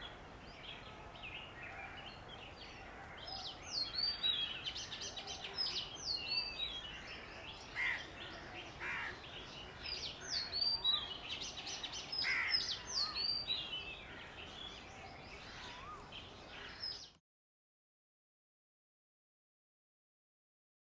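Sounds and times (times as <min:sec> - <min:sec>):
birds chirping: 0:00.0 - 0:17.2.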